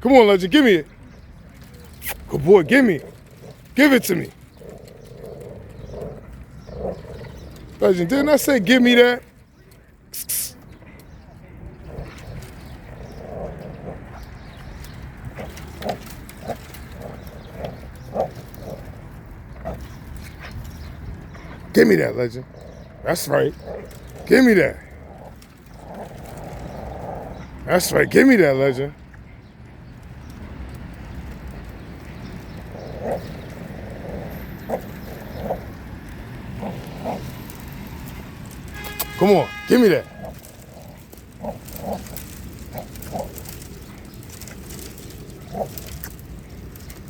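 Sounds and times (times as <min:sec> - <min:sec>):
dog growling: 0:01.8 - 0:09.3, 0:11.6 - 0:29.0, 0:30.4 - 0:47.0.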